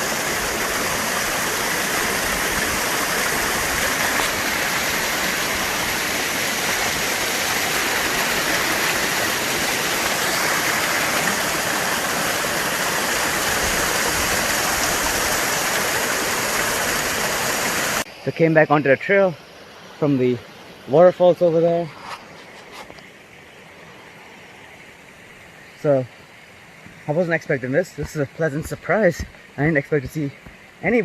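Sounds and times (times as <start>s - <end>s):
waterfall rushing and splashing: 0.0s - 21.8s, 23.1s - 31.0s.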